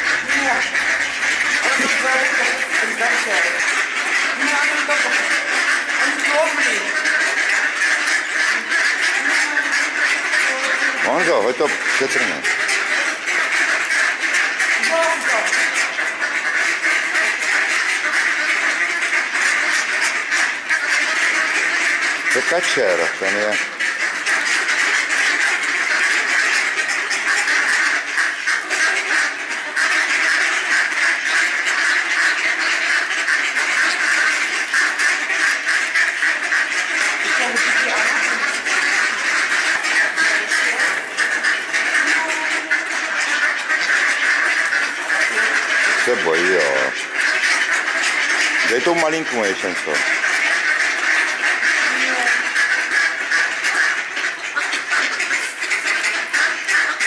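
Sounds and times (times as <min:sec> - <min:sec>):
ducks quacking: 0:00.0 - 0:57.0.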